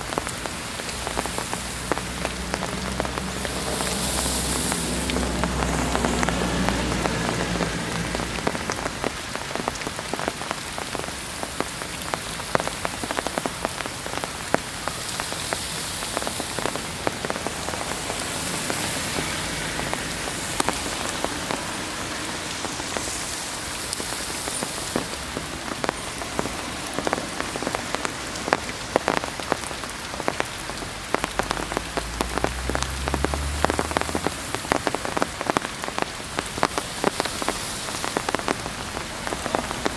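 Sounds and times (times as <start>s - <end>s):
heavy rain falling: 0.0s - 39.9s
raindrops ticking on surfaces: 0.0s - 39.9s.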